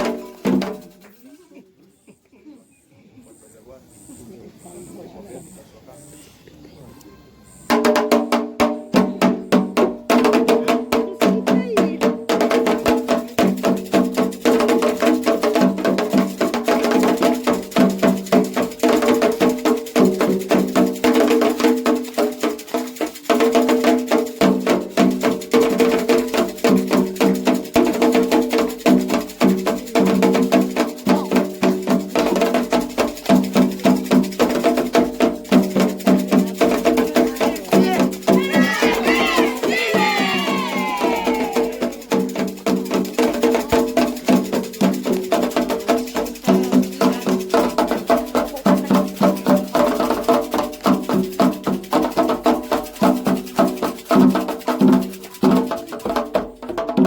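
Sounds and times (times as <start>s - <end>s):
sharp percussion beat: 0.0s - 1.2s, 7.5s - 57.0s.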